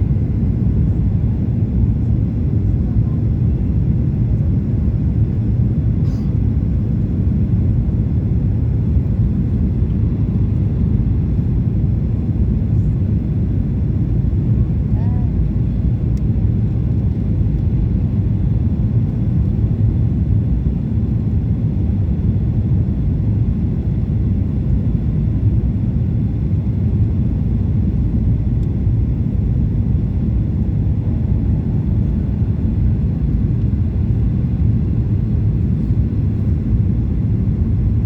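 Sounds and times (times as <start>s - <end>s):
airliner engine and airflow rumble: 0.0s - 38.0s.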